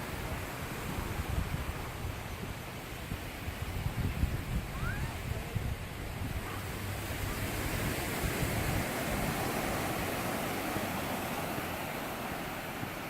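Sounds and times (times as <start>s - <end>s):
sea waves surging onto beach: 0.0s - 13.0s
wind rumble on microphone: 0.0s - 13.0s.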